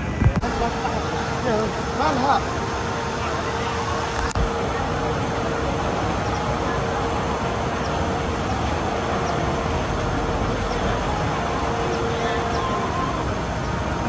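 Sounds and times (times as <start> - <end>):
water rushing through a channel: 0.0 - 14.0.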